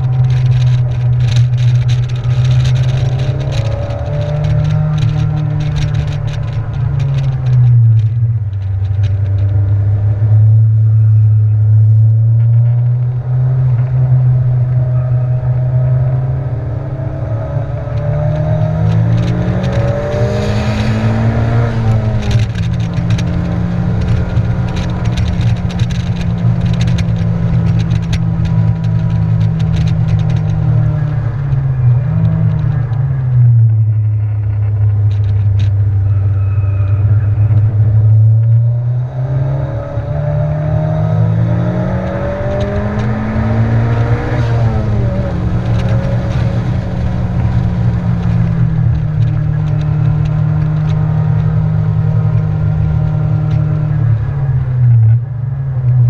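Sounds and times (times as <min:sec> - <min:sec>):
car engine under load: 0:00.0 - 0:56.0
tyre noise: 0:00.0 - 0:56.0
wind noise: 0:00.0 - 0:56.0.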